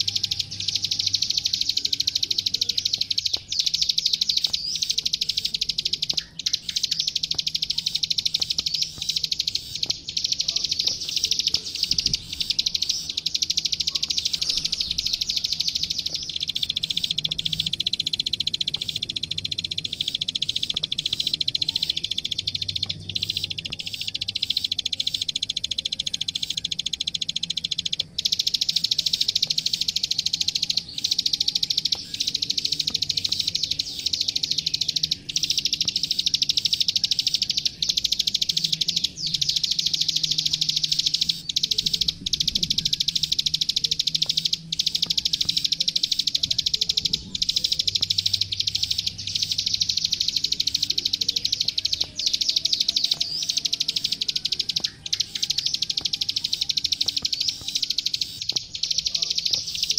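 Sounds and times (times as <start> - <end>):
songbird chirping rapidly: 0.0 - 59.9.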